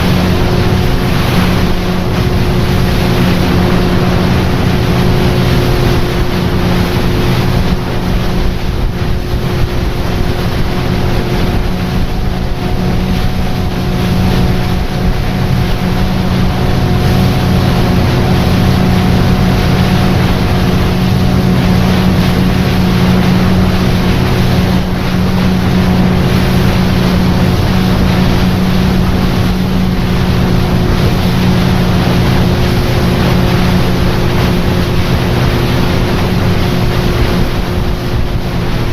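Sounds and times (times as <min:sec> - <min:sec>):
motorboat engine running: 0:00.0 - 0:38.9
water rushing past hull: 0:00.0 - 0:38.9
wind on microphone: 0:00.0 - 0:38.9.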